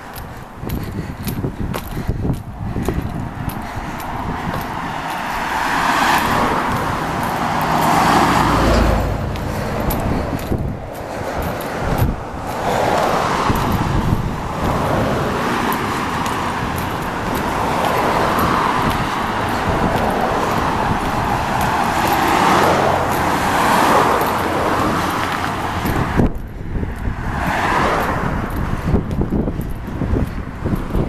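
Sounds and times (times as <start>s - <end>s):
cars passing on road: 0.0s - 31.0s.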